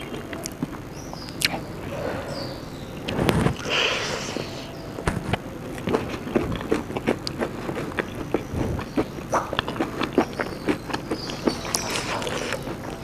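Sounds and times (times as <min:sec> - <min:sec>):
person chewing crunchy food: 0:00.0 - 0:01.6, 0:03.0 - 0:13.0.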